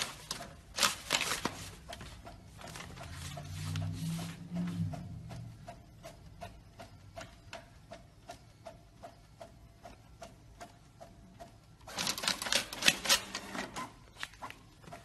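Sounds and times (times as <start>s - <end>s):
printer rattling whir: 0.0s - 15.0s
printer ticking: 0.0s - 15.0s.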